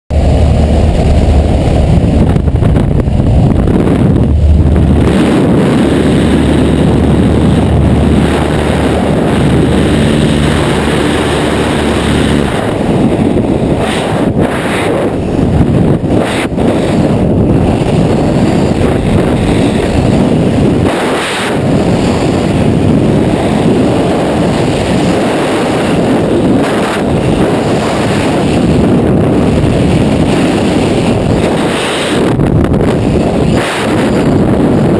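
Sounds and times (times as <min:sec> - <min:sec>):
heavy wind buffeting microphone: 0:00.1 - 0:34.9
propeller plane engine droning: 0:00.1 - 0:34.9.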